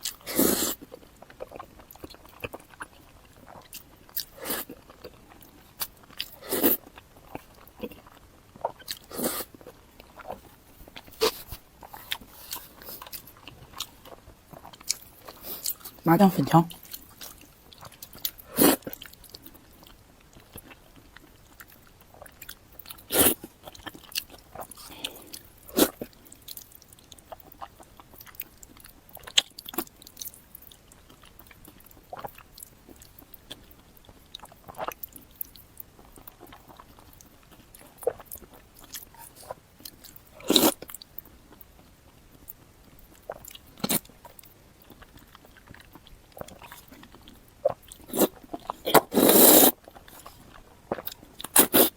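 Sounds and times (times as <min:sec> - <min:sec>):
person chewing noodles: 0:00.0 - 0:51.9.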